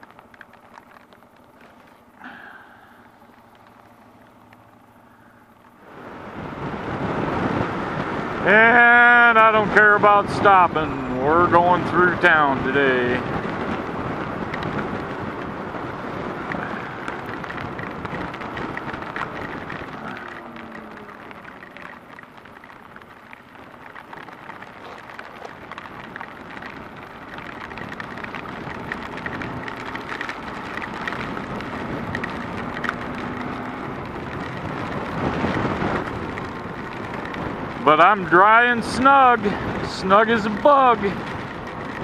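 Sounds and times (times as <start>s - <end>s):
motorcycle engine: 0.0s - 42.0s
raindrops hitting microphone: 0.0s - 42.0s
rushing wind: 0.0s - 42.0s.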